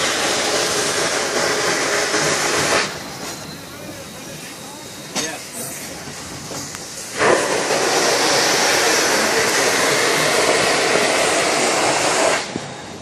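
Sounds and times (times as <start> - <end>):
steam locomotive venting steam: 0.0 - 13.0.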